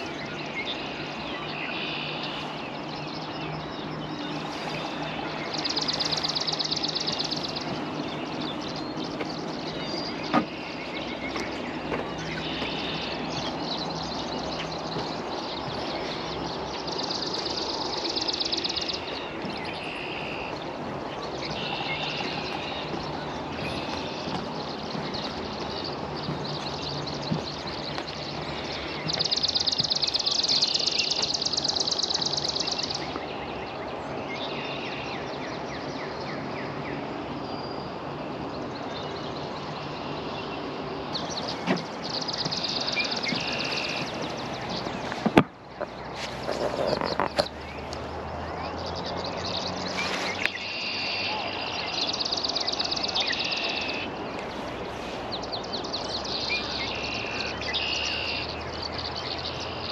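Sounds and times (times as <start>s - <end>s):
songbird trilling: 0.0s - 35.3s, 41.1s - 59.9s.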